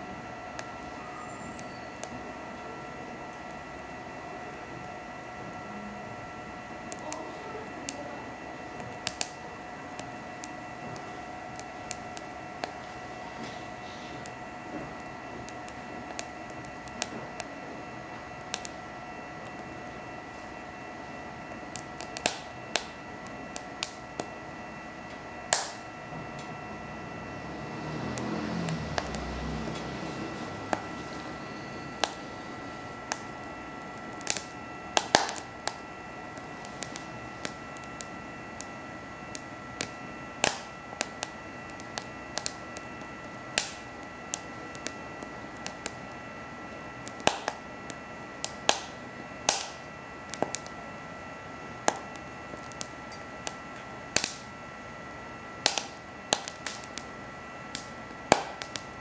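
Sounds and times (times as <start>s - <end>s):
small fan whining: 0.0s - 59.0s
wood crackling and popping in fire: 0.0s - 59.0s.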